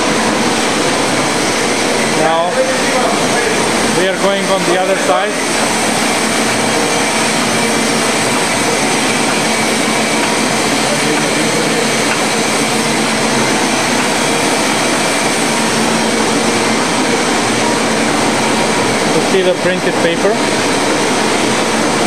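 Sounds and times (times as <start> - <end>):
printing press running: 0.0 - 22.0.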